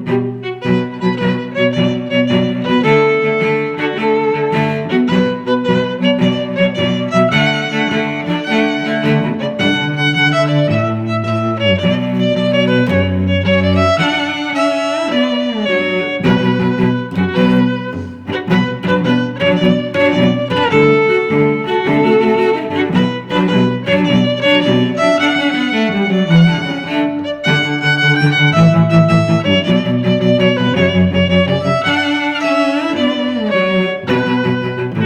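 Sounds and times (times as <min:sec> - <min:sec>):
rhythmic string music: 0:00.0 - 0:35.0.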